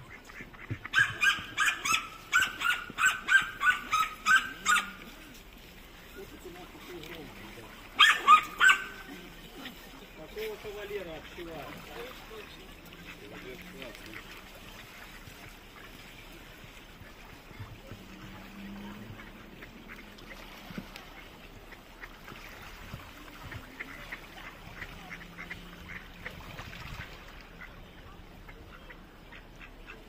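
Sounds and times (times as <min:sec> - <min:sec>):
ducks quacking: 0:00.0 - 0:05.4, 0:06.0 - 0:30.0.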